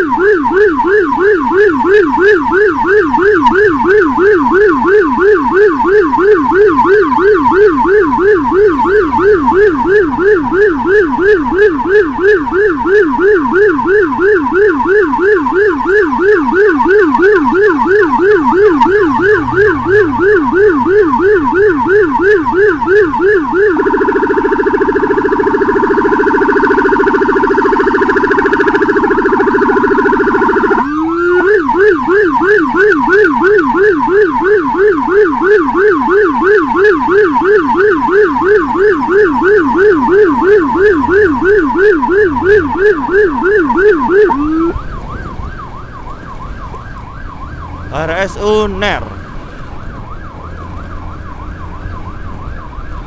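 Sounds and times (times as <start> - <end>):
electronic siren yelping: 0.0 - 53.0
rapid siren warble: 0.0 - 53.0.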